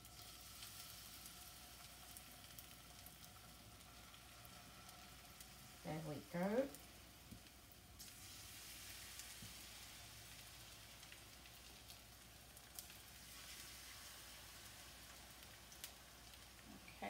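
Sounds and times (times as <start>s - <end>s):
batter sizzling in frying pan: 0.0s - 17.0s.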